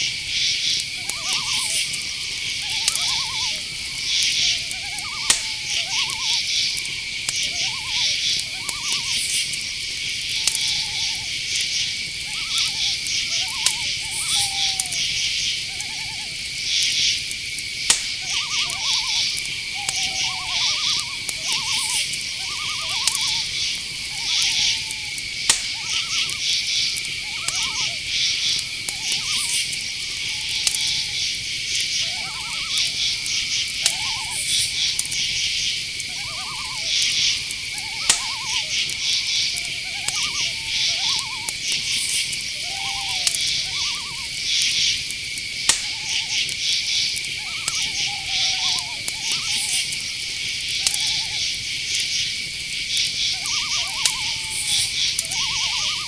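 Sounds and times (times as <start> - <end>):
crickets trilling: 0.0 - 56.0
insects chirping in pulses: 0.0 - 56.0
owl hooting: 0.0 - 56.0
sharp clicks: 0.8 - 15.3, 16.8 - 42.6, 43.2 - 52.3.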